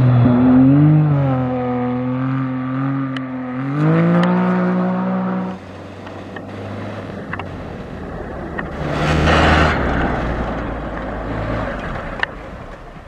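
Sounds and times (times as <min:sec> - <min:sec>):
vehicle engine passing at speed: 0:00.0 - 0:13.0.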